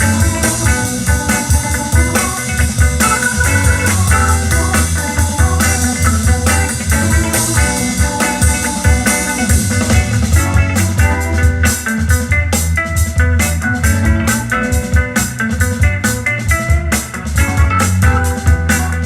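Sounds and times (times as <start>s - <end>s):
drum kit beat: 0.0s - 19.0s
plucked guitar notes: 0.0s - 19.0s.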